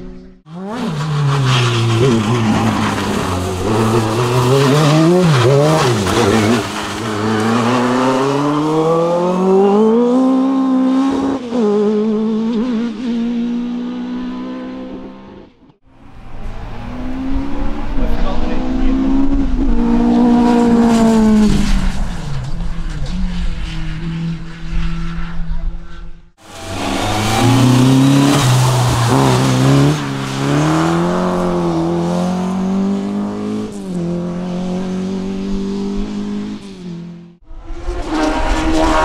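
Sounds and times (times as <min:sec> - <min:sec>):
racing car engine accelerating: 0:00.0 - 0:39.0.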